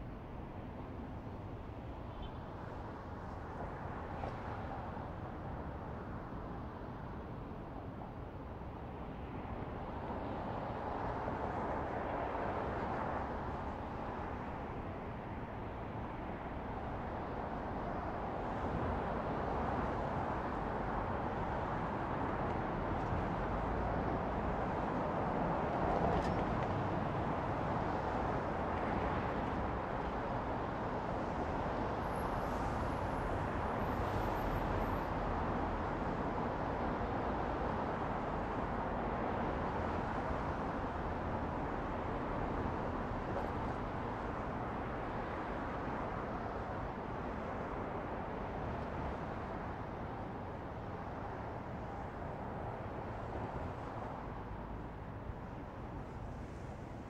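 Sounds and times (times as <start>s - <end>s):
distant road traffic: 9.0s - 57.0s.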